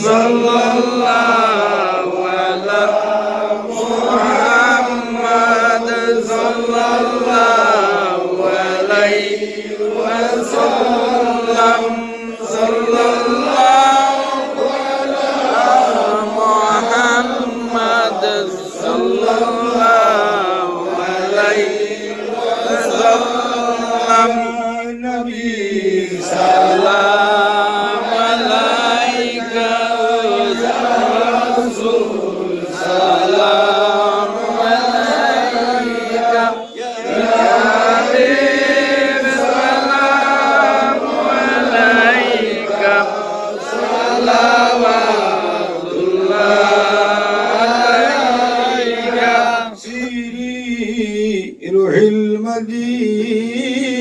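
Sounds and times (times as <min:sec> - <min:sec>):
men chanting unaccompanied: 0:00.0 - 0:54.0.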